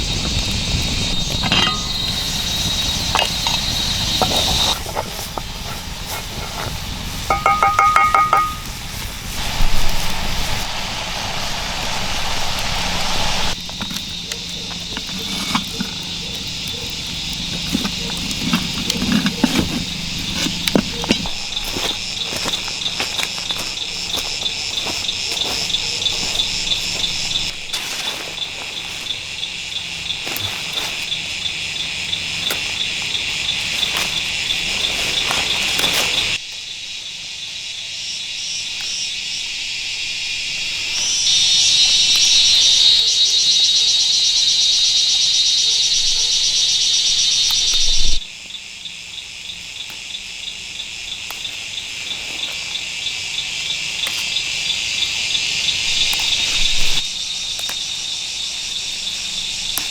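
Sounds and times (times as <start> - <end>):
insects chirping chorus: 0.0 - 59.9
loud dense insect trill: 0.0 - 59.9.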